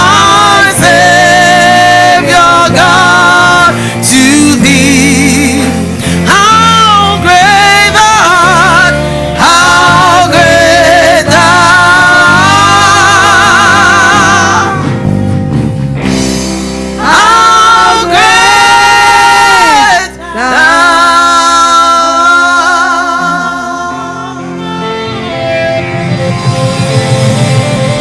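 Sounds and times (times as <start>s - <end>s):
person singing with vibrato: 0.0s - 15.1s, 17.0s - 28.0s
instrumental accompaniment: 0.0s - 28.0s.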